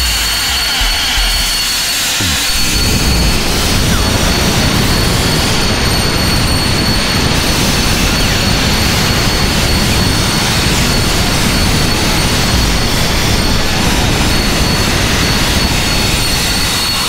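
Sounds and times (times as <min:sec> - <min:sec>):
electronic noise music: 0:00.0 - 0:17.0
thin steady high tone: 0:00.0 - 0:17.0.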